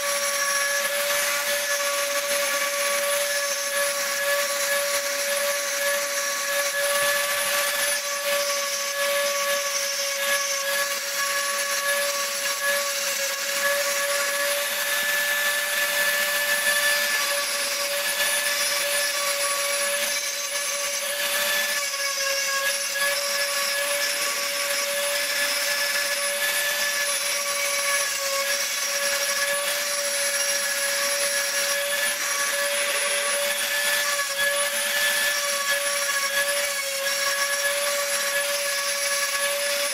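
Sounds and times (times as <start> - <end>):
rotary tool high-pitched whine: 0.0 - 39.9.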